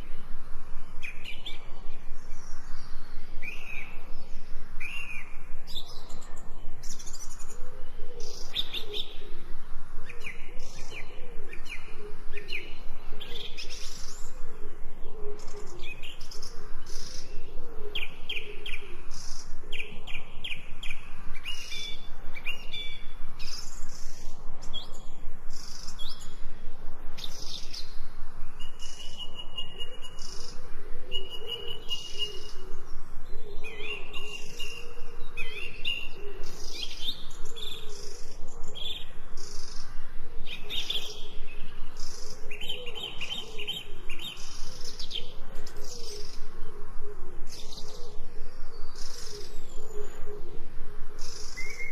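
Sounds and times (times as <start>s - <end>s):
birds chirping and singing: 0.0s - 51.9s.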